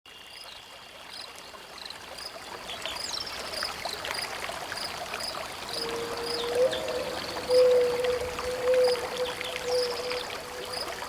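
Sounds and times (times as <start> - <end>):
stream water running: 0.1 - 11.0.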